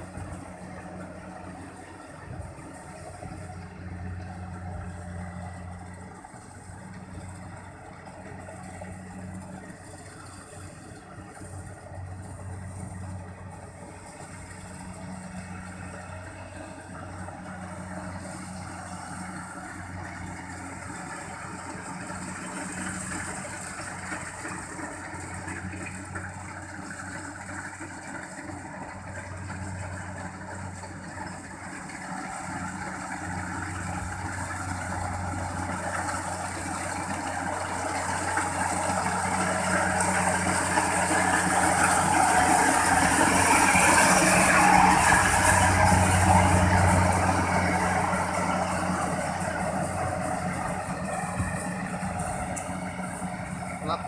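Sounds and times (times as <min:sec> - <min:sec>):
combine harvester engine humming: 0:00.0 - 0:54.0.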